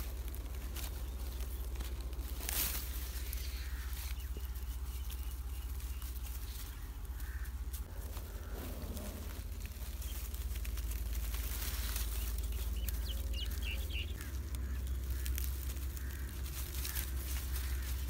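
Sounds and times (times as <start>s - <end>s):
low steady rumble: 0.0s - 18.0s
puppies rustling on straw: 0.0s - 18.0s.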